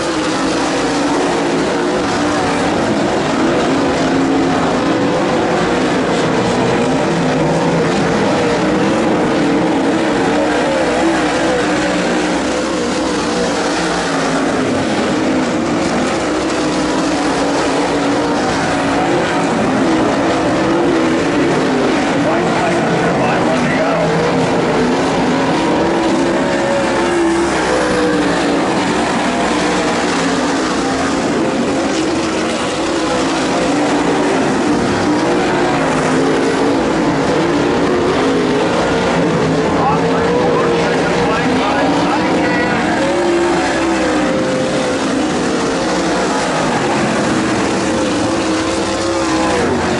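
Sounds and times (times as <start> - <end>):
race car engines running hard: 0.0 - 49.9.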